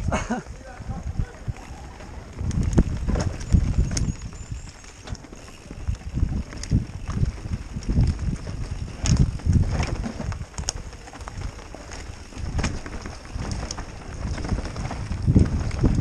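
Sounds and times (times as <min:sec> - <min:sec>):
wind buffeting microphone: 0:00.0 - 0:16.0
bike knocks and rattles: 0:00.1 - 0:16.0.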